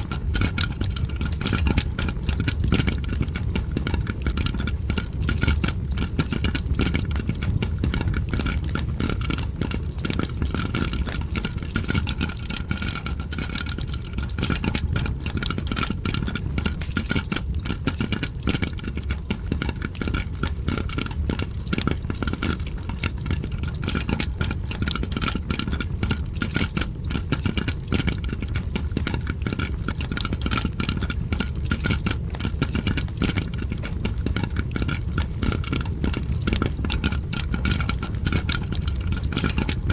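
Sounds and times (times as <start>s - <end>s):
fire crackling: 0.0s - 39.9s
popcorn popping: 0.0s - 39.9s.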